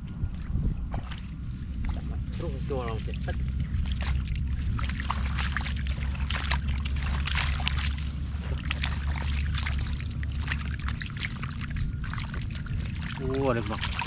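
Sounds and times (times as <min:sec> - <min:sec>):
fish splashing in shallow water: 0:00.0 - 0:14.0
low rumble: 0:00.0 - 0:14.0.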